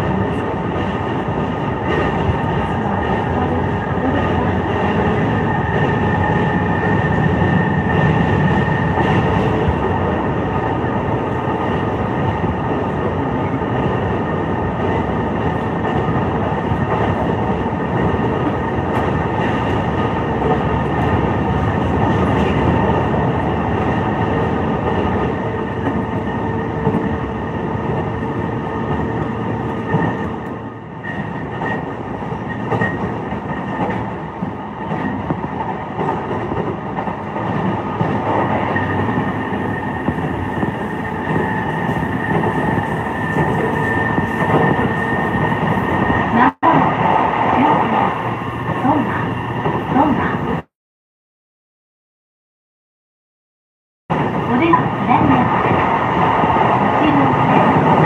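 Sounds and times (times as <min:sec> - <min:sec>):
train wheels rumbling on rail: 0:00.0 - 0:50.7, 0:54.1 - 0:58.0.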